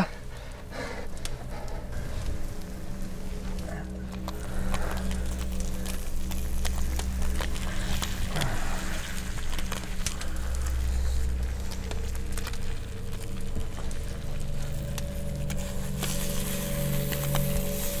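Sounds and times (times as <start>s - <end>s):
steady low drone: 0.0s - 18.0s
campfire crackling and popping: 0.1s - 18.0s.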